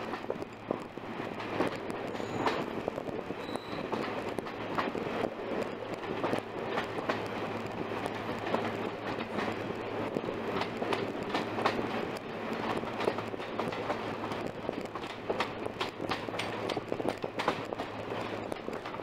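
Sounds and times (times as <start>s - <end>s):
train rumble and hum: 0.0s - 19.0s
wheels clicking over rail joints: 0.0s - 19.0s.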